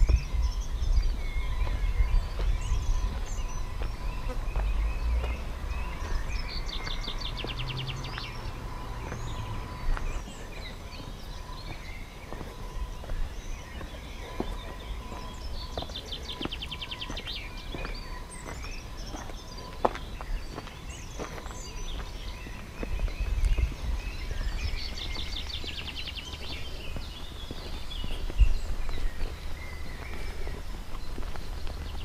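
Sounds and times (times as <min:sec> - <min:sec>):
bird chirps: 0:00.0 - 0:32.0
footsteps on stone paths: 0:00.0 - 0:32.0
songbirds singing: 0:00.0 - 0:32.0
wind rumble on microphone: 0:00.0 - 0:32.0.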